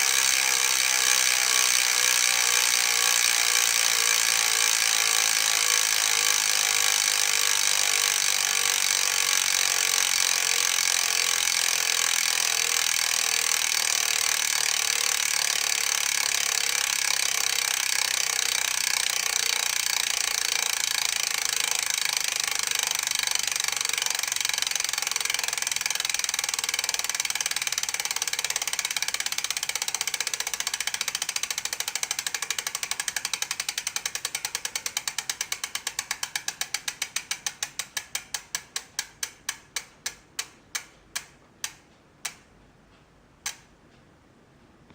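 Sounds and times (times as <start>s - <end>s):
bicycle freehub ratcheting: 0.0s - 42.5s.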